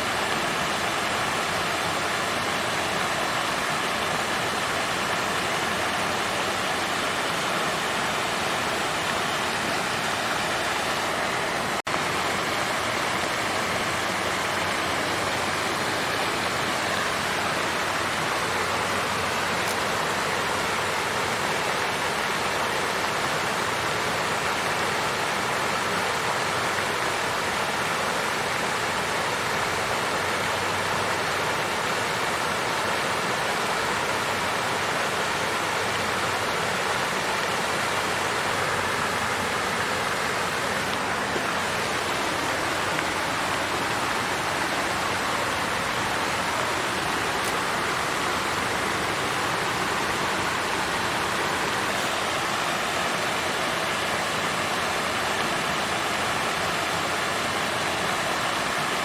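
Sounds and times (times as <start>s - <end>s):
water fountain running: 0.0s - 59.0s.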